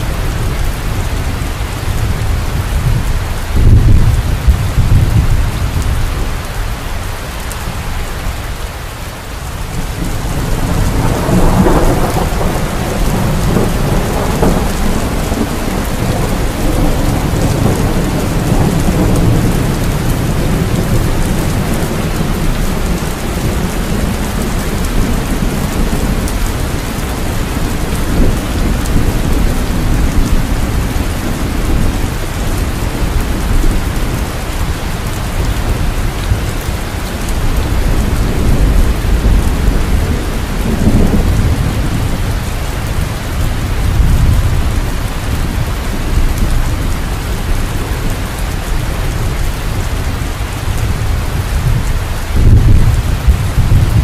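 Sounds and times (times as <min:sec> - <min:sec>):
thunder rumbling: 0:00.0 - 0:06.8, 0:09.6 - 0:54.0
steady rain: 0:00.0 - 0:54.0.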